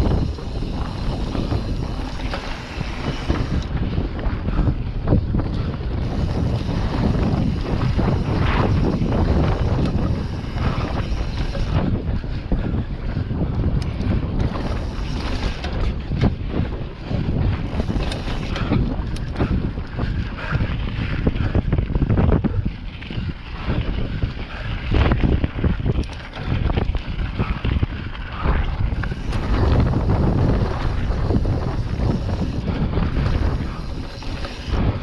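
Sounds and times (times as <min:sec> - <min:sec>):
bike knocks and rattles: 0:00.0 - 0:35.0
wind buffeting microphone: 0:00.0 - 0:35.0.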